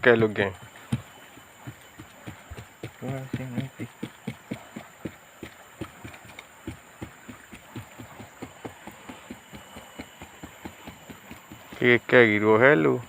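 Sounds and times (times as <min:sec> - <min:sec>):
rapid soft thumps: 0:00.0 - 0:12.8.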